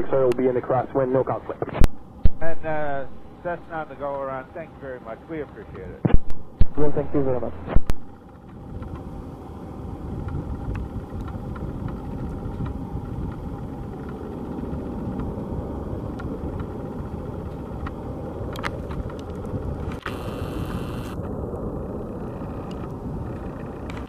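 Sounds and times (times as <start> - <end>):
faint steady whine: 0.0 - 24.0
jet engines rumbling: 0.0 - 24.0.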